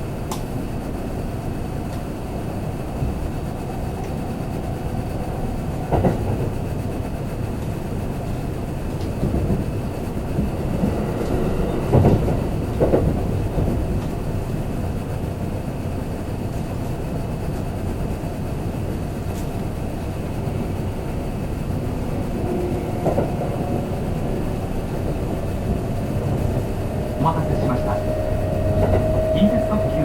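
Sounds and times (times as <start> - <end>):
train wheels rumbling on rail: 0.0 - 30.0
train knocks: 1.6 - 30.0.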